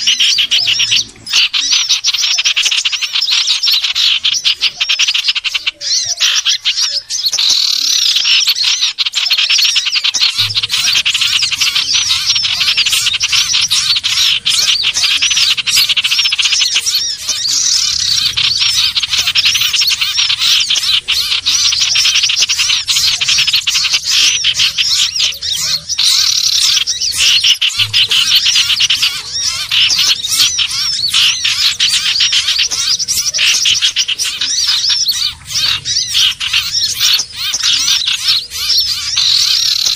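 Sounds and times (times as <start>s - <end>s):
bird rapid chirping and trills: 0.0s - 39.9s.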